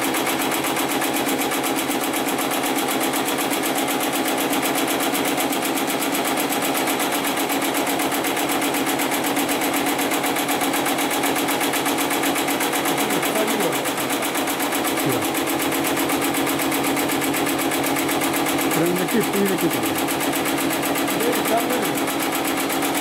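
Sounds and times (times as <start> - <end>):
sewing machine stitching: 0.0 - 23.0.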